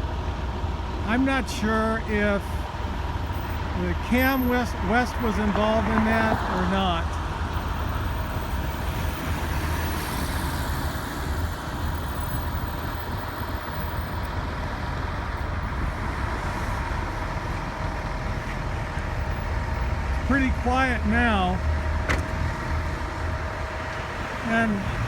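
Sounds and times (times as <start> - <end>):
cars and trucks going by: 0.0 - 25.0.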